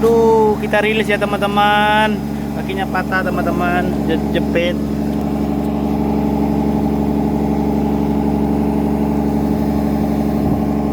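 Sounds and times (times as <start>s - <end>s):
excavator diesel engine droning: 0.0s - 10.9s.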